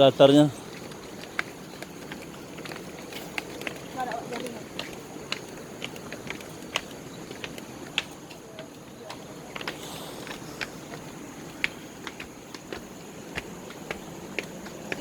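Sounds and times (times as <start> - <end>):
footsteps on stairs: 0.0 - 15.0
steady background hiss: 0.0 - 15.0.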